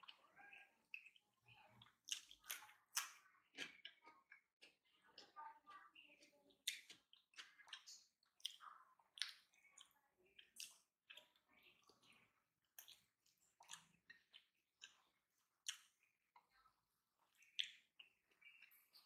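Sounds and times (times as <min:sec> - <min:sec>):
wet chewing and lip smacks: 0:00.0 - 0:05.4, 0:06.2 - 0:19.0.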